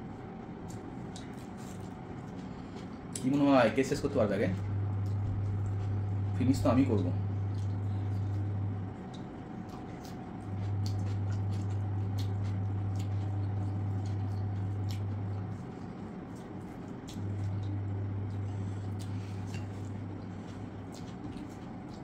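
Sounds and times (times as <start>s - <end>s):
loud low hum: 0.0s - 22.0s
wet squishy chewing: 0.6s - 3.3s, 4.6s - 6.4s, 7.3s - 22.0s.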